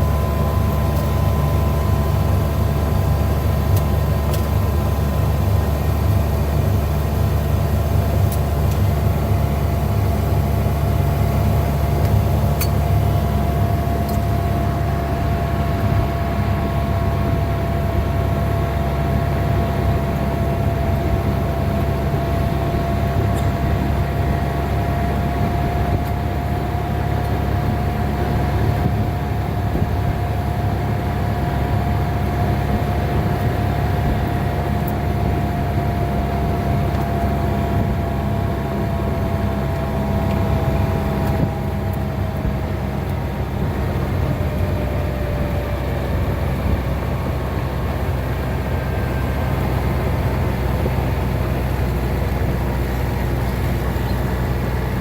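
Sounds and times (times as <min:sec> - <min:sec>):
steady whine: 0:00.0 - 0:55.0
vehicle engine and road drone: 0:00.0 - 0:55.0.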